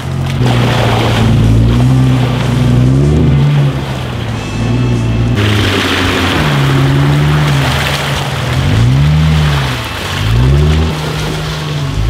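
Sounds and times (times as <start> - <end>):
car engine running under load: 0.0 - 12.0
water splashing around tyres: 0.0 - 12.0.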